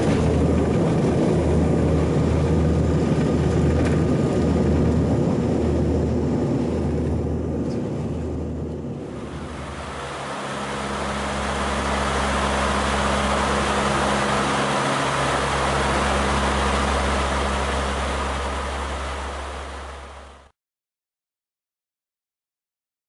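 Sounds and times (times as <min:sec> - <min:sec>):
aircraft cabin roar: 0:00.0 - 0:20.5
low engine drone: 0:00.0 - 0:20.6.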